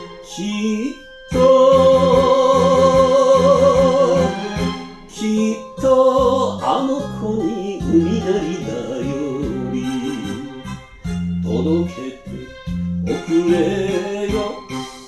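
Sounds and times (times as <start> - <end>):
person singing with vibrato: 0.0 - 15.0
band accompaniment: 1.3 - 6.8, 7.4 - 15.0.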